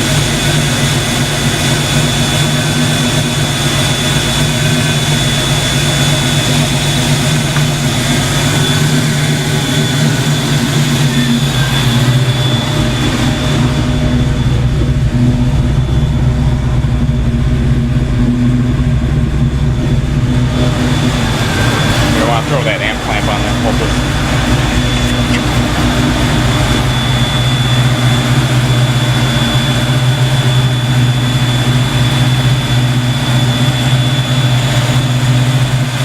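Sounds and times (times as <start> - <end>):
car engine idling: 0.0 - 36.0
radiator fans running: 0.0 - 36.0.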